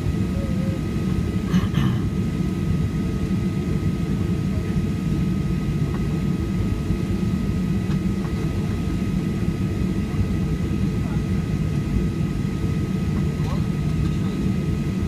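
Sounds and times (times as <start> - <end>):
airplane cabin roar: 0.0 - 15.0
faint high hum: 0.0 - 15.0.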